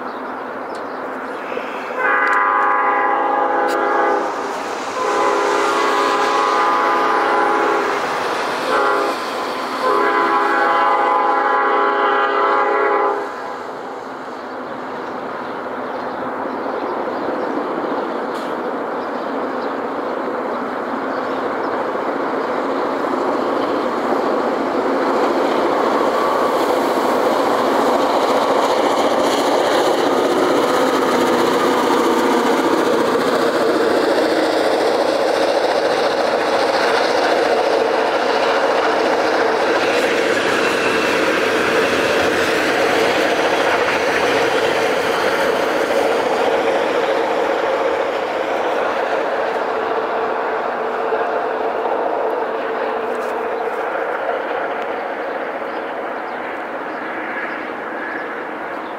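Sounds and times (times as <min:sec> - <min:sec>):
freight train rolling past: 0:00.0 - 0:58.9.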